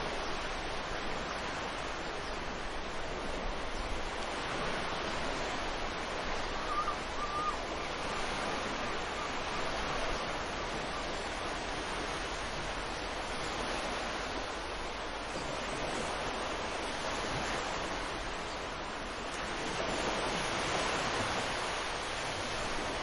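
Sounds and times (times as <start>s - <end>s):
ocean surf washing: 0.0s - 23.0s.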